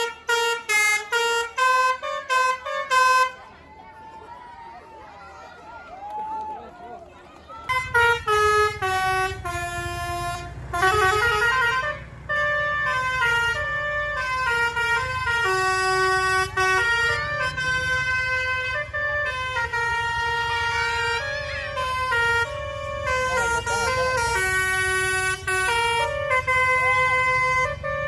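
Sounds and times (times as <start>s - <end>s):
bus horn playing a melody: 0.0s - 3.5s, 7.7s - 28.0s
bus engine rumbling: 0.0s - 28.0s.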